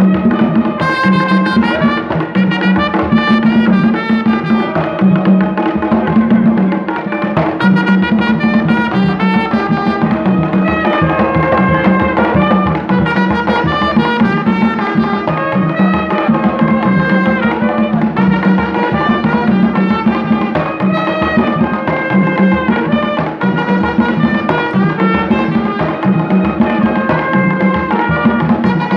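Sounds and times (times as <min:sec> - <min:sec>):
hand drums beating: 0:00.0 - 0:28.9
trumpet melody: 0:00.0 - 0:28.9.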